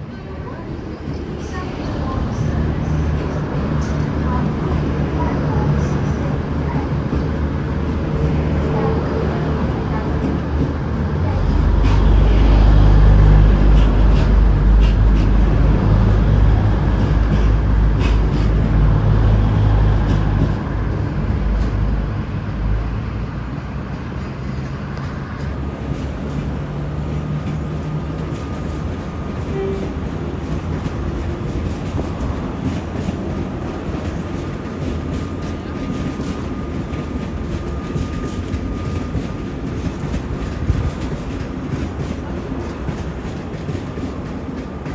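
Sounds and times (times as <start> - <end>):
diesel train engine rumble: 0.0 - 44.9.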